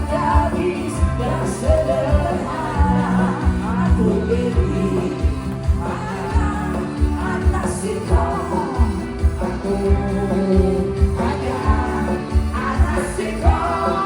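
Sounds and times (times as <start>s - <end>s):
pop music with singing: 0.0s - 14.0s.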